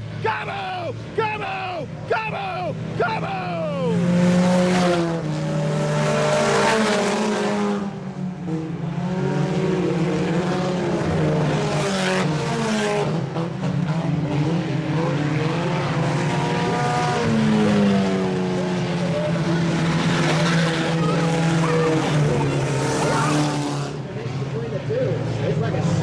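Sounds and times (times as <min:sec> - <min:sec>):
race car engines passing: 0:03.9 - 0:26.0.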